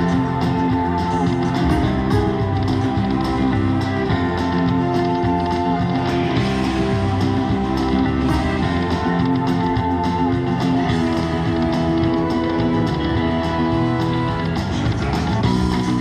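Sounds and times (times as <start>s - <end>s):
guitar-led music: 0.0s - 16.0s.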